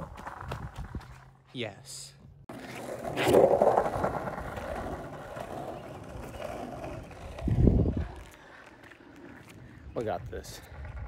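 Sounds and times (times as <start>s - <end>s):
skateboard wheels rolling on asphalt: 0.0s - 1.5s, 2.5s - 11.0s.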